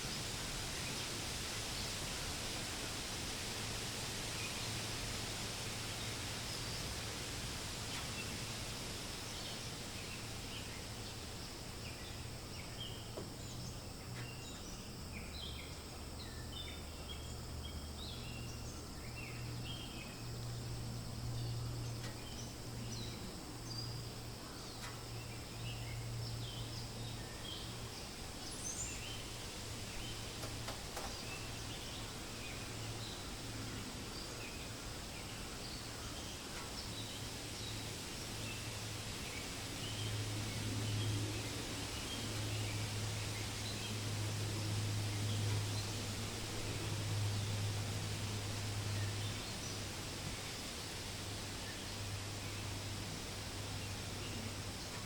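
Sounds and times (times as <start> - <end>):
wind rustling leaves: 0.0 - 55.0.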